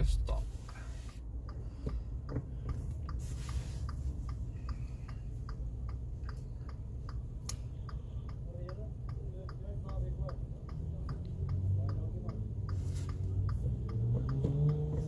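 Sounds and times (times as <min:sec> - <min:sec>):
car engine idling: 0:00.0 - 0:15.0
turn signal ticking: 0:00.0 - 0:15.0.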